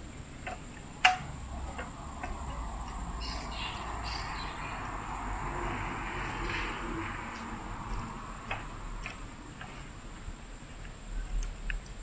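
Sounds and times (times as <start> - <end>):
footsteps on metal deck: 0.0 - 5.1, 6.2 - 11.4
forest insects hissing: 0.0 - 12.0.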